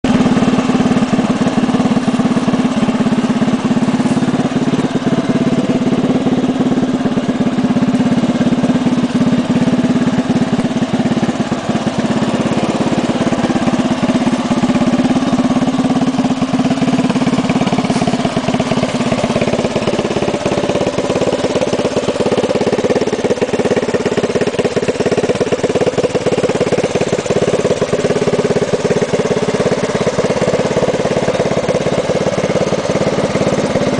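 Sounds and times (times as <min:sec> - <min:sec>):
golf cart engine running: 0:00.0 - 0:33.9.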